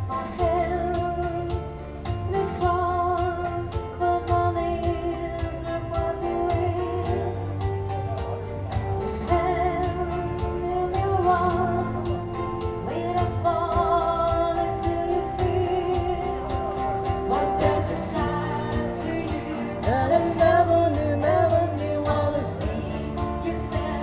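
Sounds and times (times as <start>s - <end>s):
person singing with vibrato: 0.0s - 7.9s, 9.0s - 24.0s
backing music with steady beat: 0.0s - 24.0s.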